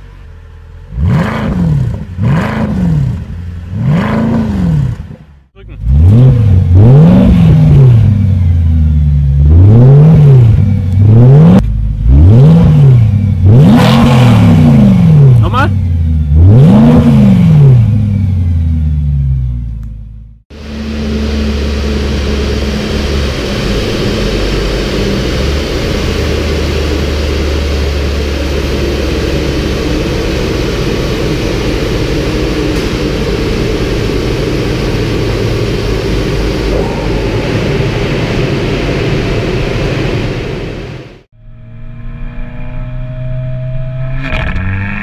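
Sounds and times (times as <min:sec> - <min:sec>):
car engine droning on dyno: 0:00.0 - 0:45.0
car exhaust revving: 0:00.0 - 0:45.0.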